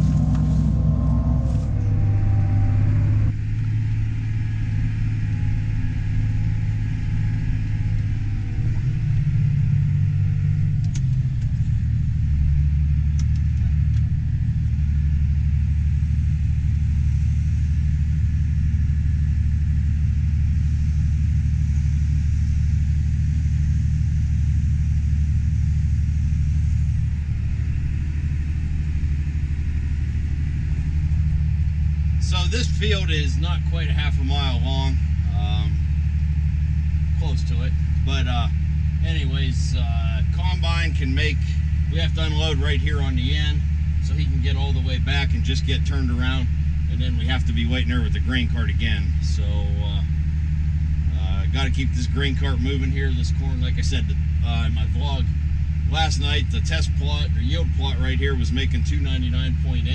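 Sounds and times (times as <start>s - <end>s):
tractor engine droning: 0.0s - 59.9s.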